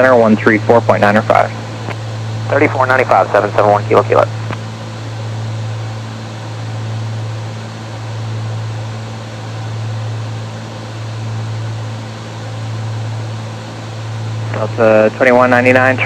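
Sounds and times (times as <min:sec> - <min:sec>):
air noise: 0:00.0 - 0:16.0
twin propeller engine drone: 0:00.0 - 0:16.0.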